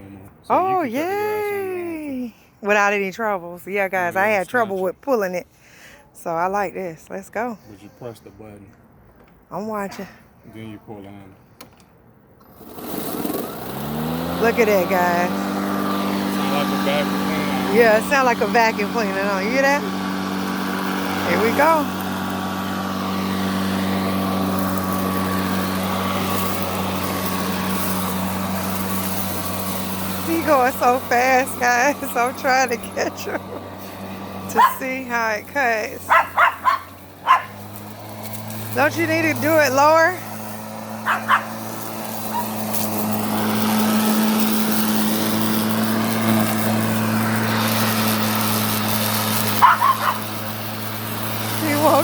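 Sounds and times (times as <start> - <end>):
electric lawn mower running: 0.5 - 4.9, 11.6 - 52.0.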